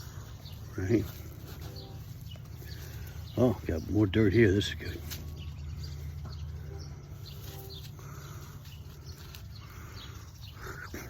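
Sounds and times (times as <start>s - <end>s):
farmyard bird calls: 0.0s - 11.0s
steady low rumble: 0.0s - 11.0s.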